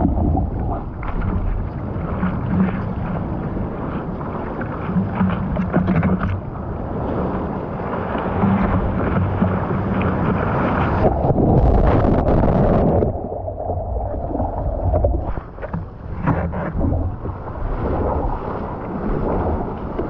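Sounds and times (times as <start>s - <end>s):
seawater sloshing and splashing: 0.0s - 20.0s
wind buffeting the microphone: 0.0s - 20.0s.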